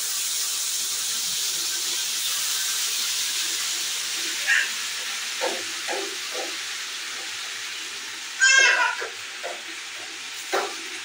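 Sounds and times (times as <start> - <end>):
butter sizzling in a pan: 0.0 - 11.0.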